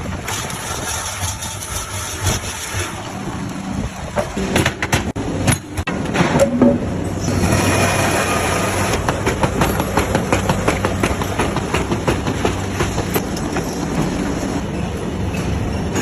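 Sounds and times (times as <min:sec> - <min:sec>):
machine humming and rattling: 0:00.0 - 0:16.0.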